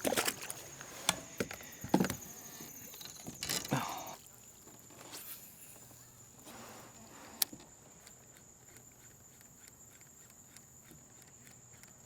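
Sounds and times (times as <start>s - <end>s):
insects buzzing: 0.0s - 11.4s
faint regular ticks: 0.5s - 12.0s.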